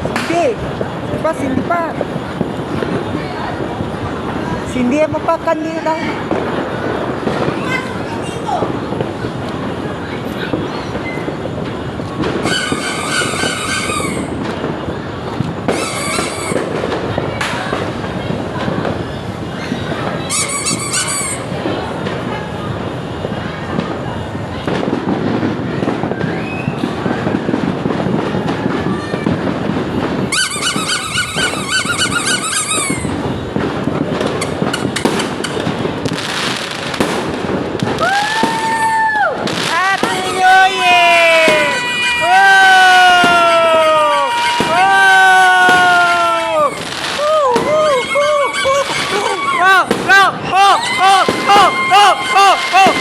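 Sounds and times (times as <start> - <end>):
fireworks crackling and popping: 0.0 - 53.0
whistling firework: 0.0 - 53.0.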